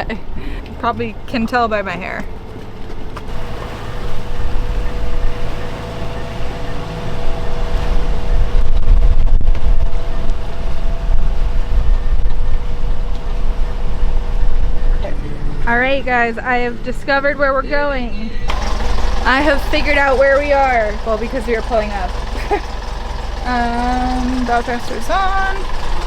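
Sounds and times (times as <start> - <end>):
rumble of wind and water: 0.0 - 22.0
boat engine droning: 3.3 - 26.0.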